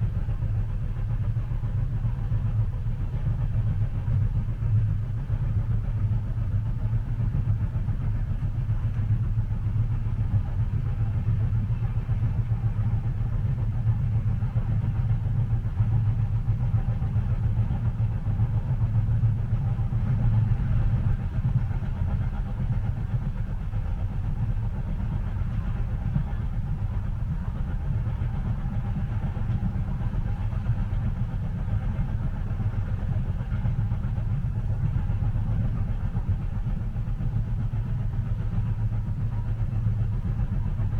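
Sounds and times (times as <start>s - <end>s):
train rumbling inside cabin: 0.0s - 40.9s.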